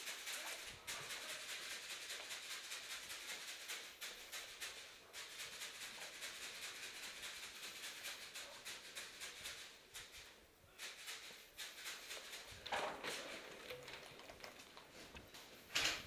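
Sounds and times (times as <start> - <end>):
faint rapid clicking and rattling: 0.0 - 16.0.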